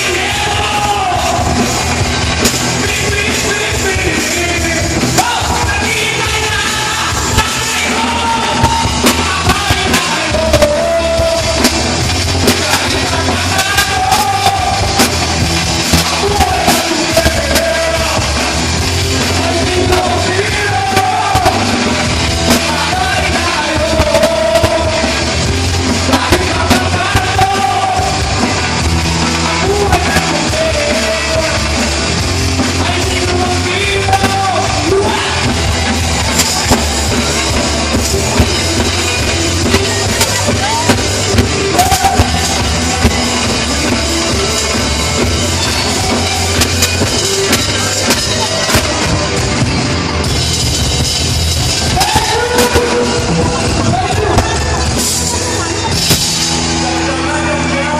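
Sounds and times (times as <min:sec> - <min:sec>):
person singing: 0:00.0 - 0:15.3, 0:15.9 - 0:28.5, 0:29.2 - 0:31.9, 0:32.6 - 0:49.4, 0:51.9 - 0:55.1
rock song: 0:00.0 - 0:57.9.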